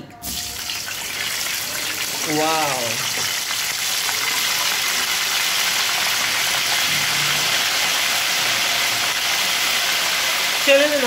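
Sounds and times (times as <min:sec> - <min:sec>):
fish deep-frying in hot oil: 0:00.2 - 0:11.0.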